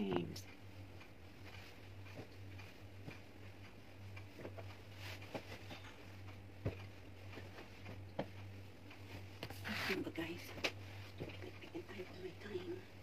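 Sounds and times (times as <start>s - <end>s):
steady low hum: 0.0s - 13.0s
bedding rustling and thumps: 0.1s - 11.8s.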